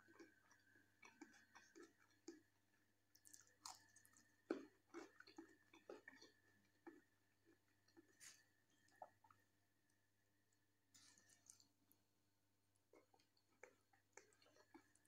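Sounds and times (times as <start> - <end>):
chewing crisp cucumber: 0.0 - 9.5, 10.5 - 12.1, 12.8 - 15.0.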